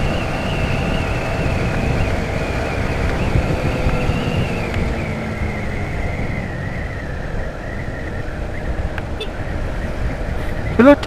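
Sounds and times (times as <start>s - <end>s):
motorcycle engine whining: 0.0s - 11.0s
wind buffeting microphone: 0.0s - 11.0s.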